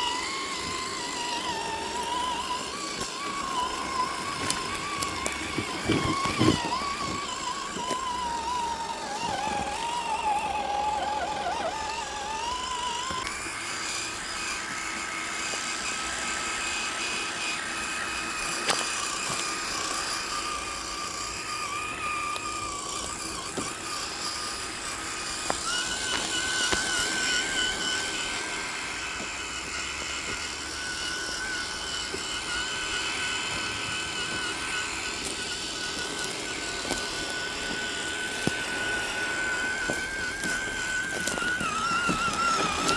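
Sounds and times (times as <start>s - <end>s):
electric motor and gearbox whine: 0.0s - 42.9s.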